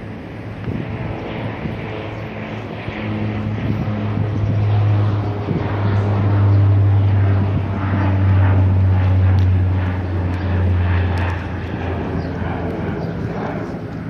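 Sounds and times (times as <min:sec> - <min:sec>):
low engine drone: 0:00.0 - 0:14.0
noisy wash: 0:00.0 - 0:14.0.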